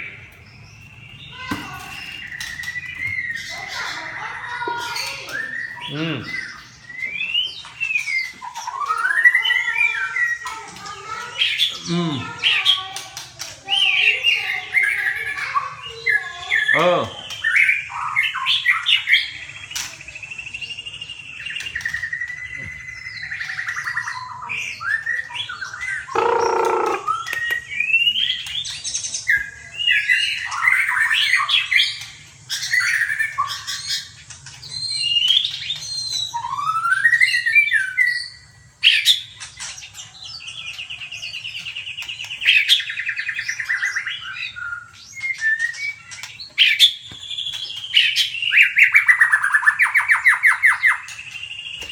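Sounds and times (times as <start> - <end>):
songbirds singing and calling: 0.0 - 51.9.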